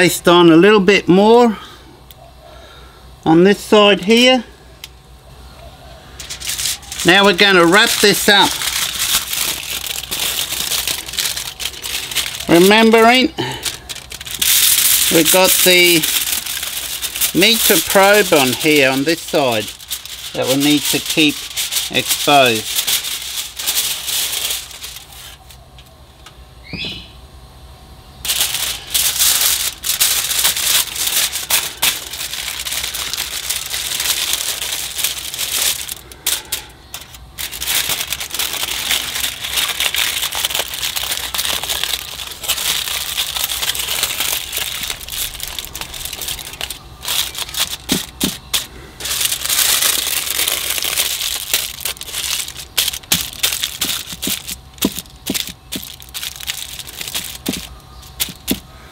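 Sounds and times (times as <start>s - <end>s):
aluminium foil crinkling: 6.0s - 25.9s, 28.2s - 58.9s.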